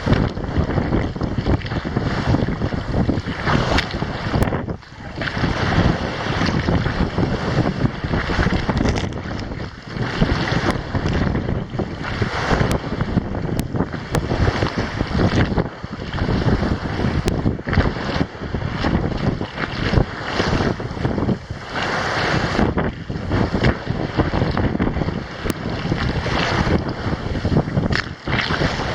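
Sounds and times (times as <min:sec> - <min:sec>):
water rushing along hull: 0:00.0 - 0:28.9
wind buffeting microphone: 0:00.0 - 0:28.9.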